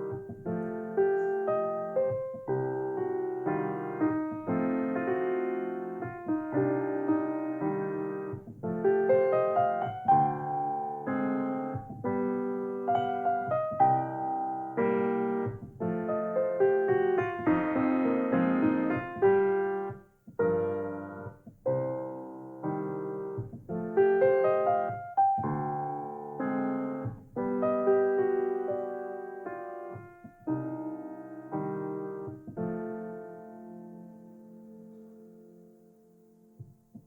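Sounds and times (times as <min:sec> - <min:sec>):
solo piano blues: 0:00.0 - 0:37.0.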